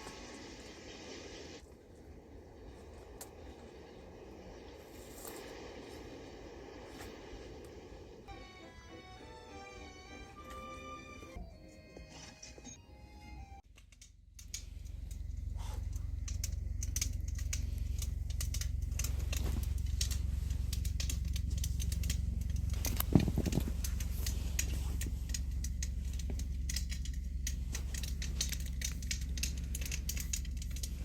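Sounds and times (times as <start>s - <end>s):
campfire crackling: 0.0s - 11.4s, 13.7s - 31.0s.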